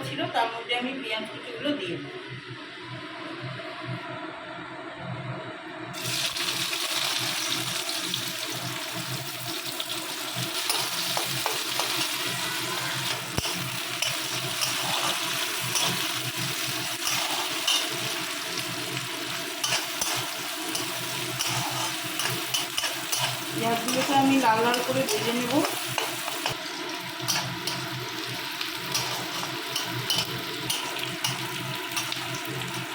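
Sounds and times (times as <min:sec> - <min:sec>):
onions sizzling in hot oil: 0:06.0 - 0:32.9.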